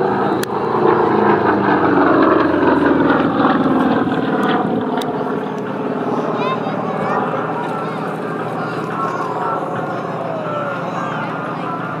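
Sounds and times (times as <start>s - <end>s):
propeller aircraft flying overhead: 0.0s - 12.0s.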